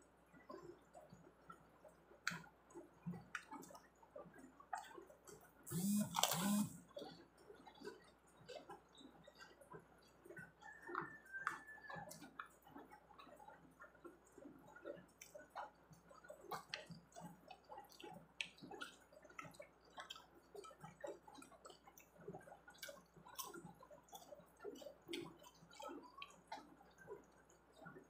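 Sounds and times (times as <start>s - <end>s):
faint chewing: 0.3s - 28.0s.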